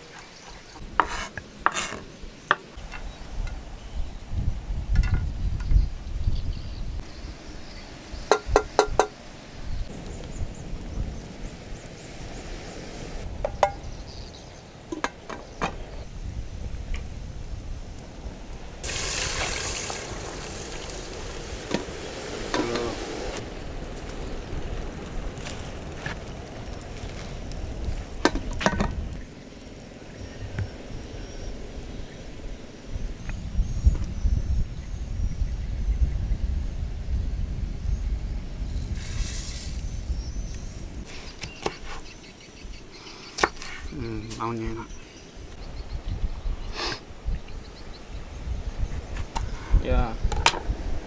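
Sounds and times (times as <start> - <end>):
outdoor background noise: 0.0 - 51.0
wind rumble on microphone: 2.2 - 42.9, 43.7 - 51.0.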